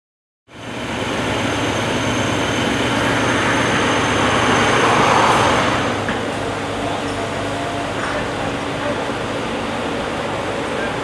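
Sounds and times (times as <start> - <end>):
diesel engines droning: 0.5 - 11.0
broad rushing noise: 0.6 - 11.0.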